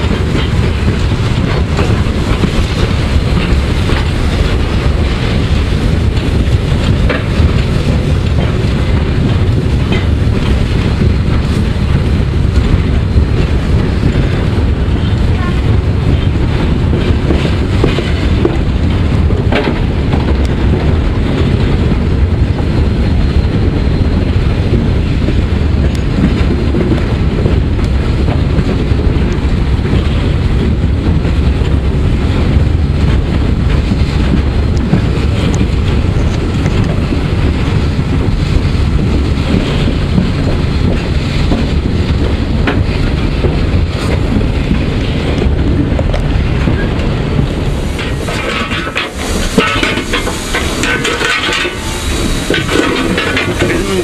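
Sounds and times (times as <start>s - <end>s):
steam locomotive wheels rumbling: 0.0s - 54.0s
wind on microphone: 0.0s - 54.0s.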